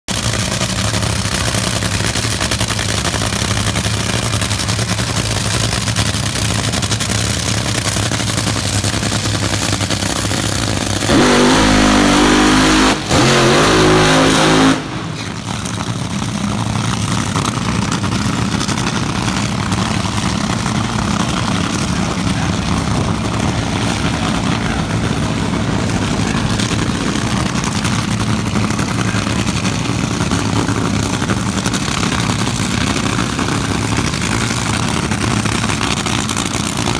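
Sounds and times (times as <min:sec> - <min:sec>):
dragster engines roaring: 0:00.1 - 0:36.9.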